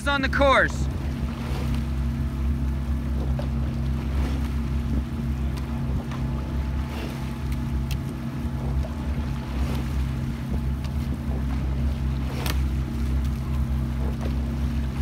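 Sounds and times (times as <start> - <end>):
oars clunking in oarlocks: 0.0 - 15.0
outboard motor humming: 0.0 - 15.0.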